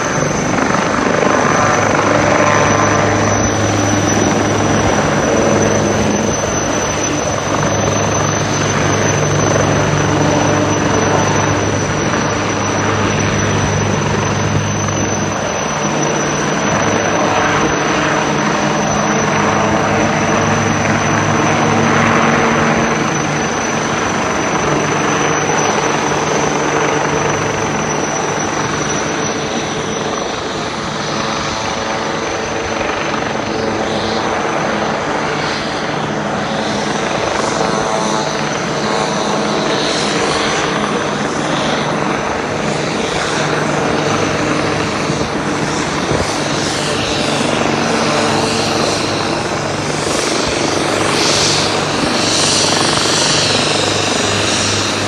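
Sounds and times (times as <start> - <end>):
helicopter hovering: 0.0 - 55.0
high turbine whine: 0.0 - 55.0.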